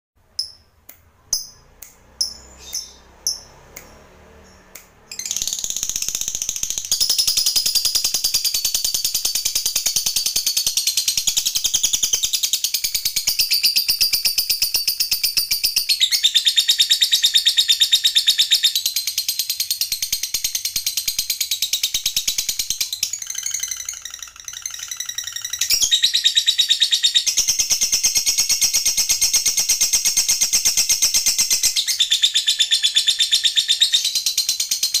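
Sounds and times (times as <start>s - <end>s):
lovebird sharp chirps: 0.3s - 35.0s
lovebird fast chattering trill: 5.1s - 35.0s.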